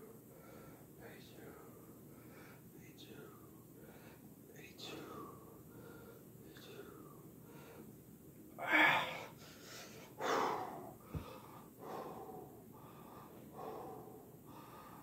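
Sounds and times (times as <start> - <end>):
man breathing hard: 0.0 - 2.7, 3.7 - 8.0, 8.6 - 15.0.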